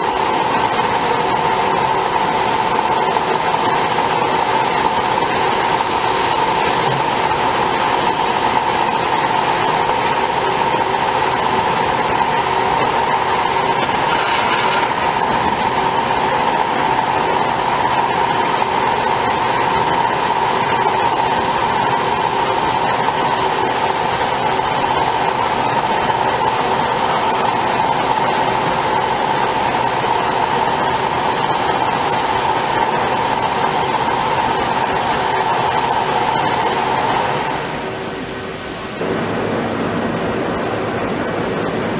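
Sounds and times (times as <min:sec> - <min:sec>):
cutting machine hiss and hum: 0:00.0 - 0:41.9
gas torch burning: 0:00.0 - 0:41.9.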